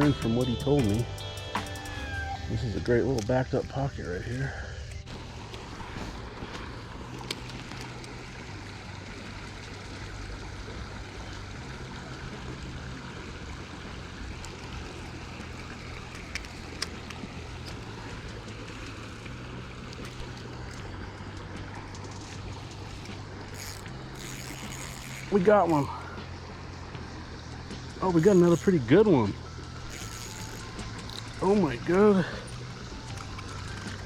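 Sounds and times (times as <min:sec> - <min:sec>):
creek water flowing and gurgling: 0:00.0 - 0:34.0.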